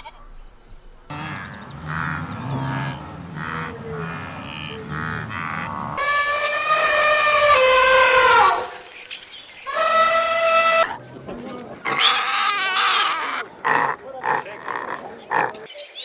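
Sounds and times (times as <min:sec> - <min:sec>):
animal calls: 0:01.1 - 0:08.9, 0:09.6 - 0:15.7.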